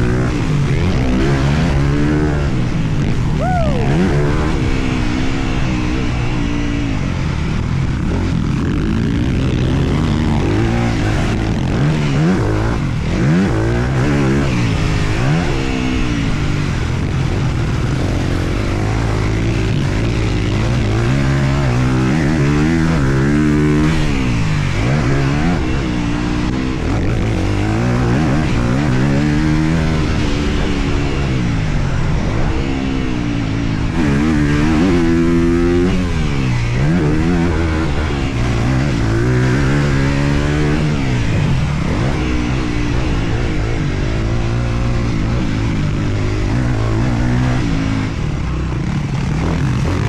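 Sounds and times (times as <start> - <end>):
motocross engine revving: 0.0 - 50.0.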